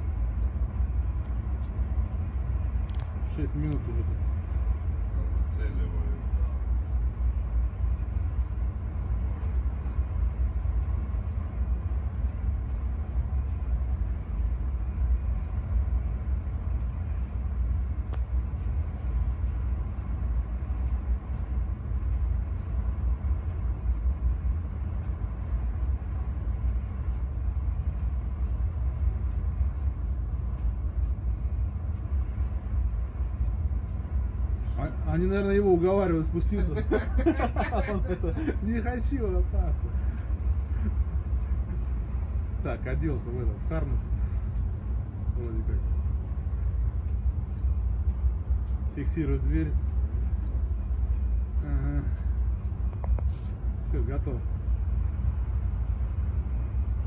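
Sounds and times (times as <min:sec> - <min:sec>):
faint irregular ticking: 0:00.0 - 0:57.0
low rumble of ship: 0:00.0 - 0:57.0.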